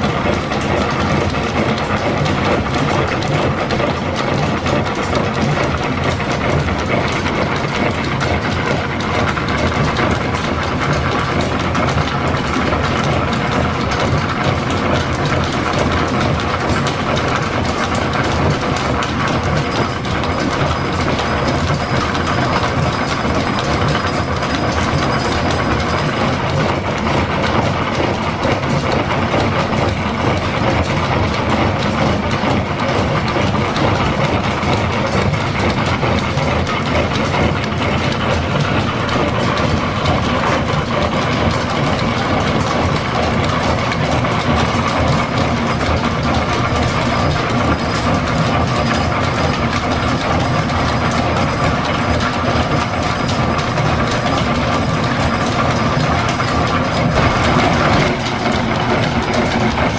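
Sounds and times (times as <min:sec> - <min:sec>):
milling machine clattering: 0:00.0 - 0:59.9.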